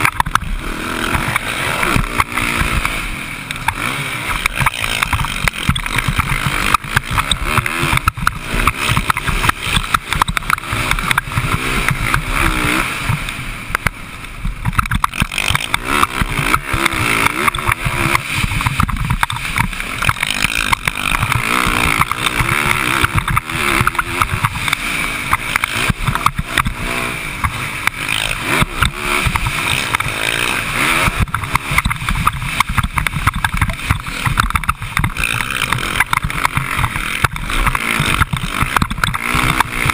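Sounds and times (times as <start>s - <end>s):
dirt bike engine revving: 0.0s - 39.9s
track noise: 0.0s - 39.9s.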